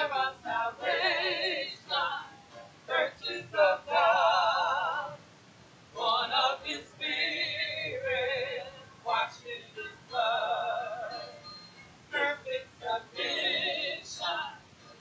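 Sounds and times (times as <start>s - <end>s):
men and women singing together: 0.0s - 5.2s, 6.0s - 11.4s, 12.1s - 14.7s.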